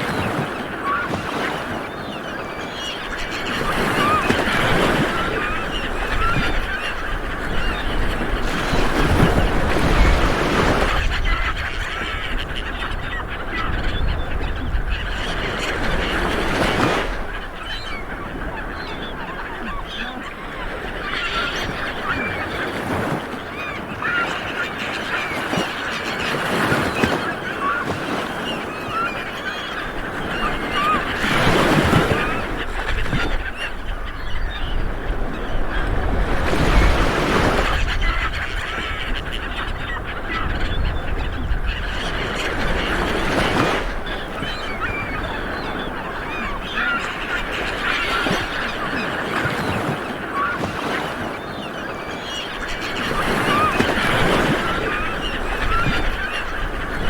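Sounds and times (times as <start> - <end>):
birds calling: 0.0 - 57.0
small waves washing onto beach: 0.0 - 57.0.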